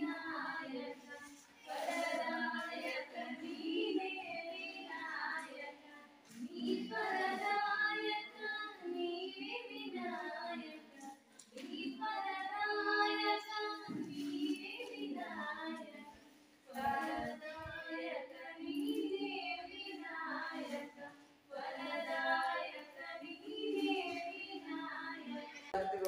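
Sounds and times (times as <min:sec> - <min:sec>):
women singing together: 0:00.0 - 0:26.0.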